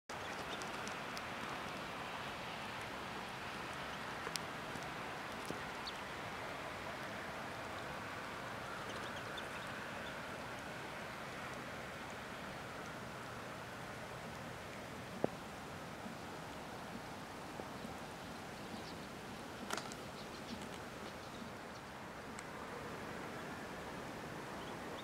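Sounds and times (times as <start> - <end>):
outdoor background hiss: 0.1 - 25.0.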